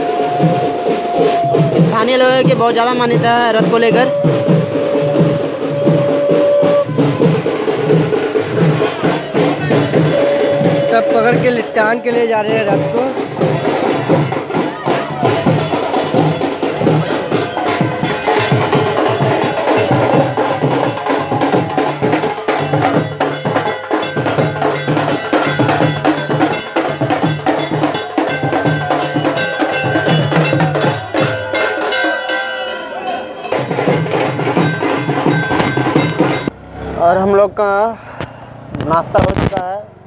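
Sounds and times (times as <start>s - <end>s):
drum band drumming: 0.0s - 36.6s
ringing tones: 0.0s - 36.6s.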